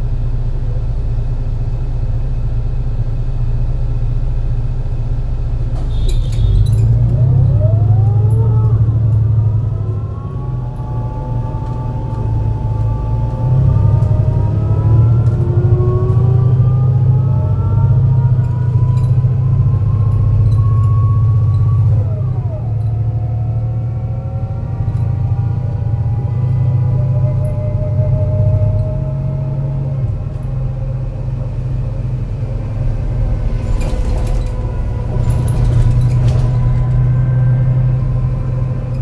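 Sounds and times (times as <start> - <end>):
bus engine rumbling: 0.0 - 39.0
gearbox whine: 0.0 - 39.0.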